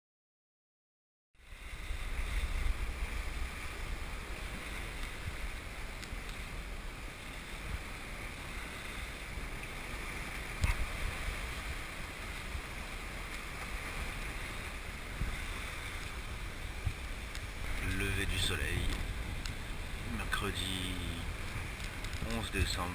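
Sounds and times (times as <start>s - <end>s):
sea rushing past hull: 1.4s - 22.9s
wind buffeting microphone: 1.4s - 22.9s.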